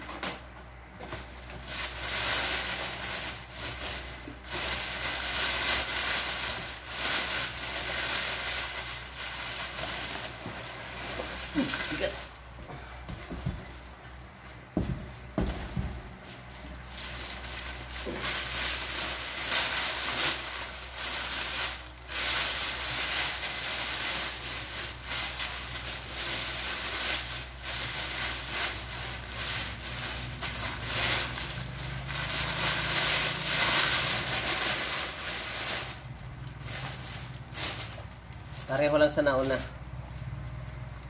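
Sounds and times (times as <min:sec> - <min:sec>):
plastic bag crinkling: 0:00.9 - 0:41.0.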